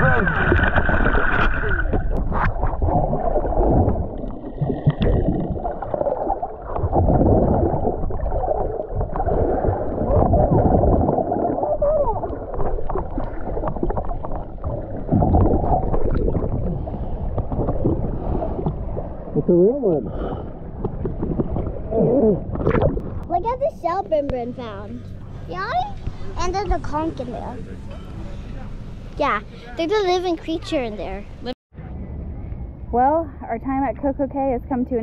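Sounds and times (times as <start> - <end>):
muffled seawater sloshing: 0.0 - 28.4.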